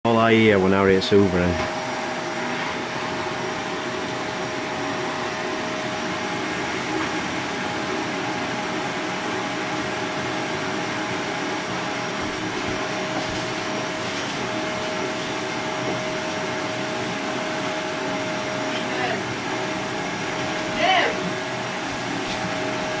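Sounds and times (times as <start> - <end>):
vacuum cleaner running: 0.1 - 23.0.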